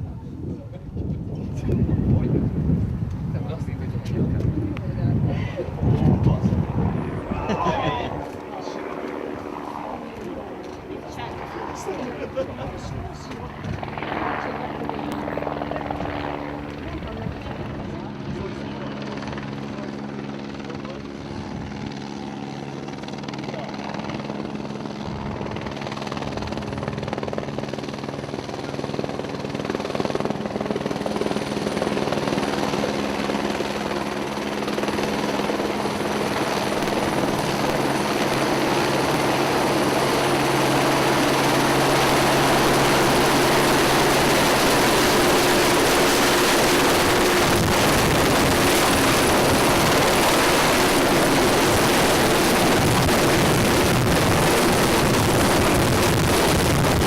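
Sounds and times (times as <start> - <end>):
helicopter rotor hovering: 0.0 - 57.0.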